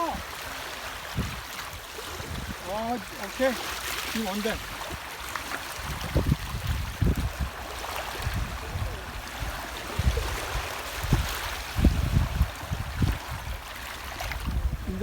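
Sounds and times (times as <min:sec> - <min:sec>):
rushing water: 0:00.0 - 0:15.0
wind buffeting microphone: 0:00.0 - 0:15.0.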